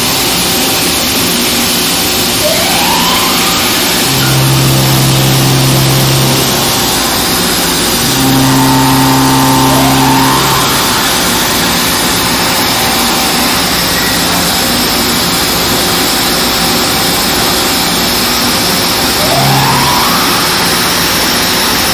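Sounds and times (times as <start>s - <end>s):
short rising whine: 2.2s - 21.9s
machine low hum: 2.3s - 21.9s.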